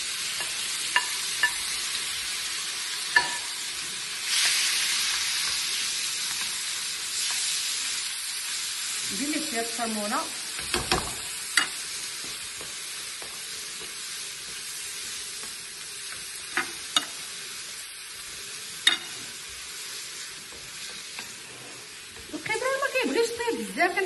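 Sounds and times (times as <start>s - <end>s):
shrimp sizzling in a pan: 0.0s - 24.0s.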